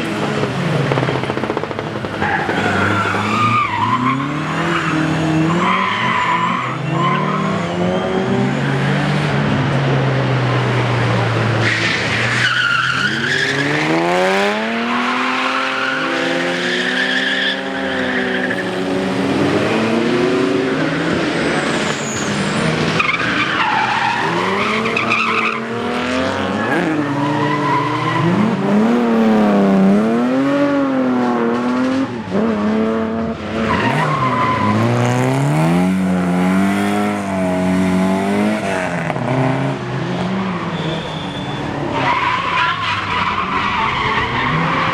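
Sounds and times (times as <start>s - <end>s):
tyres squealing and skidding: 0.0s - 31.0s, 33.4s - 44.9s
rally car engine revving: 0.0s - 44.9s.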